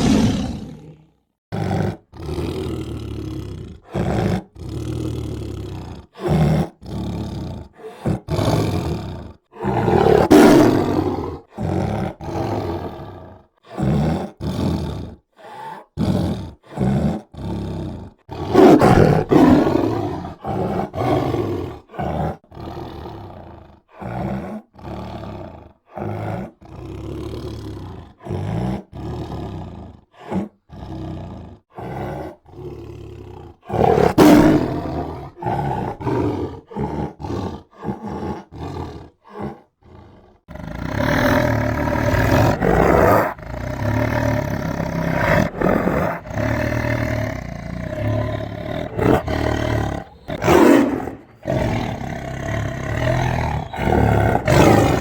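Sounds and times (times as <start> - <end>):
tiger growling and roaring: 0.0 - 55.0.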